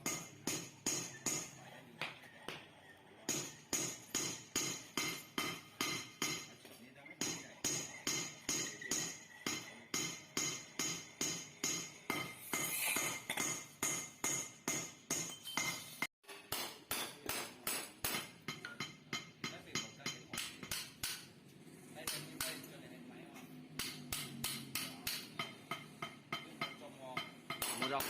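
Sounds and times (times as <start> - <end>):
hammer striking metal pipe: 0.0 - 1.6, 3.3 - 6.6, 7.2 - 21.3, 22.0 - 22.7, 23.8 - 28.0.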